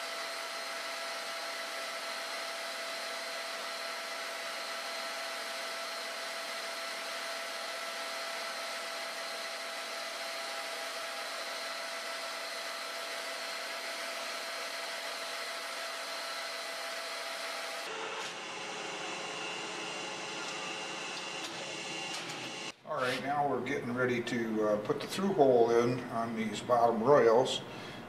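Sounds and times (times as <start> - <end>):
drill whine: 0.0 - 22.8
metal lathe running: 0.1 - 22.8.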